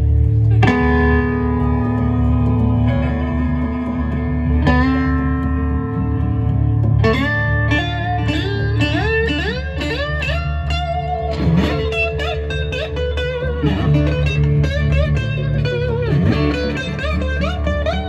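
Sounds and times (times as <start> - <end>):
bass line: 0.0 - 18.0
blues-rock band jamming: 0.0 - 18.0
electric guitar solo: 0.0 - 18.0.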